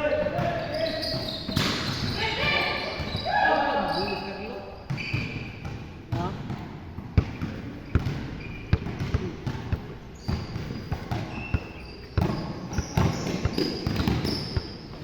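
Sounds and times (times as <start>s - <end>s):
sneaker squeaks: 0.0s - 6.3s, 7.2s - 15.0s.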